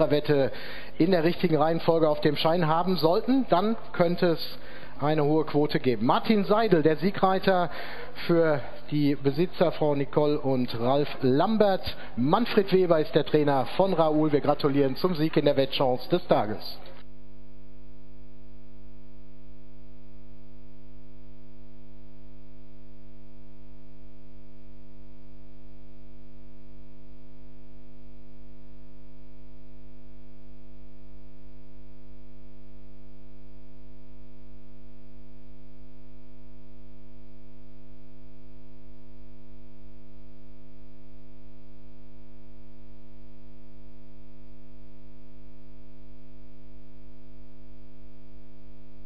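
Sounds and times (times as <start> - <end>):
steady electrical hum: 0.0 - 49.0.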